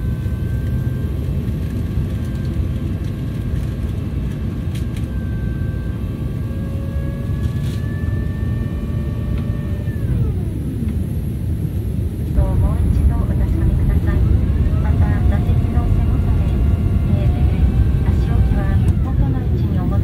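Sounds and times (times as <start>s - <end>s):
flap drive whine: 0.0s - 20.0s
low roar of aircraft cabin: 0.0s - 20.0s.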